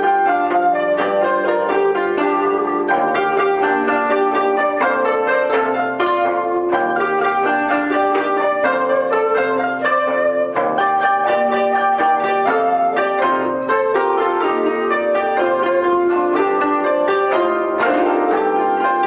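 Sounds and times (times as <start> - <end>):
bamboo flute playing: 0.0 - 19.0
koto ensemble playing: 0.0 - 19.0.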